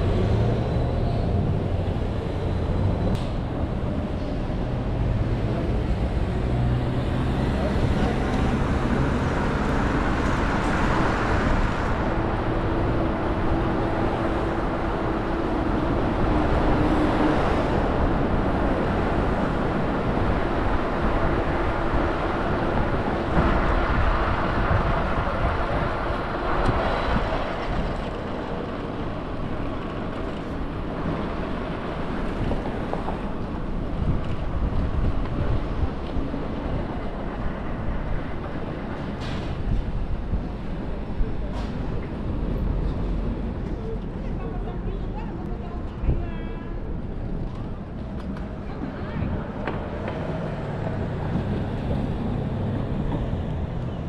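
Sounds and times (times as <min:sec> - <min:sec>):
passing vehicles: 0:00.0 - 0:54.0.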